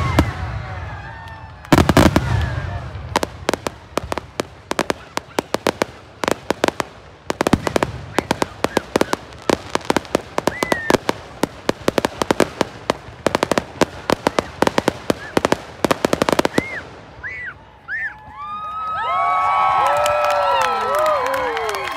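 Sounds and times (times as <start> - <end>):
fireworks bursting and crackling: 0.0 - 18.2.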